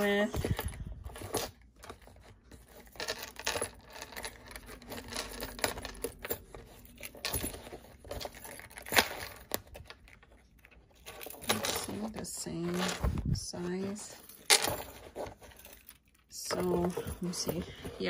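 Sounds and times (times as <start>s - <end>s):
metal chain clinking: 0.0s - 18.0s
wallets knocking and scraping: 0.0s - 18.0s.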